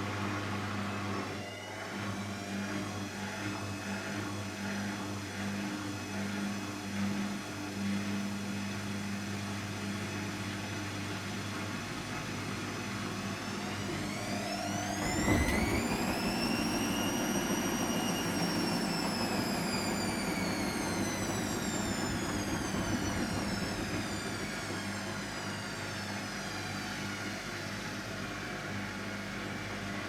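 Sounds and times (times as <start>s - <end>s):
washing machine motor whining: 0.1s - 30.0s.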